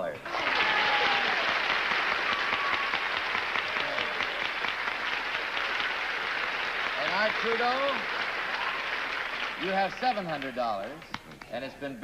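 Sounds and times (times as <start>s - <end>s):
audience applauding: 0.1s - 11.2s.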